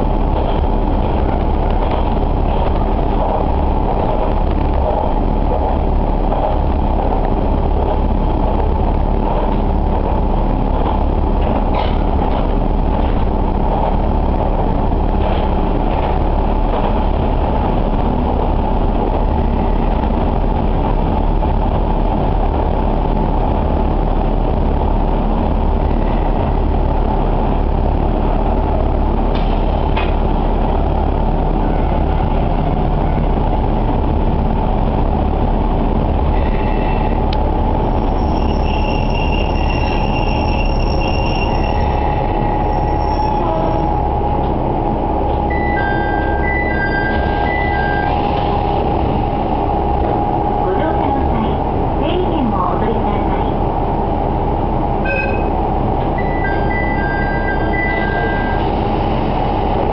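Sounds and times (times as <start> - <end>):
train engine and wheels drone: 0.0 - 59.9.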